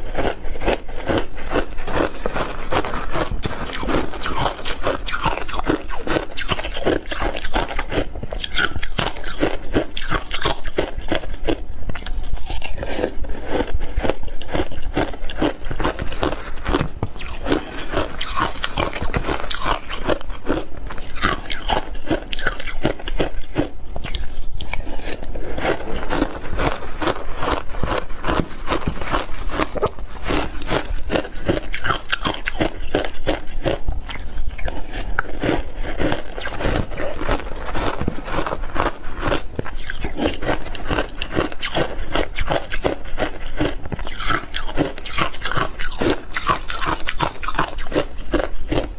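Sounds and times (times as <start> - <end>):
person crunching shaved ice: 0.0 - 48.9.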